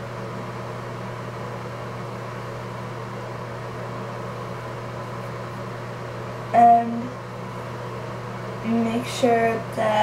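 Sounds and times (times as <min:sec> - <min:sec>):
steady mechanical hum: 0:00.0 - 0:10.0.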